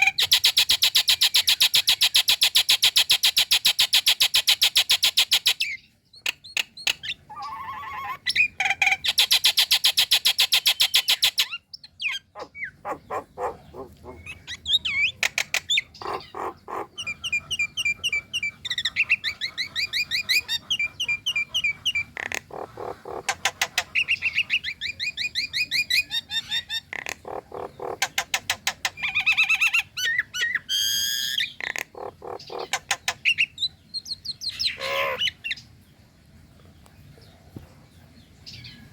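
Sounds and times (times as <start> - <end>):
myna bird calling: 0.0 - 35.8.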